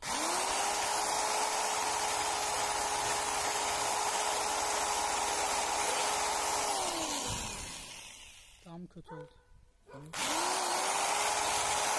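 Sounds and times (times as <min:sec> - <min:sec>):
electric drill motor whine: 0:00.0 - 0:08.6, 0:10.2 - 0:11.9.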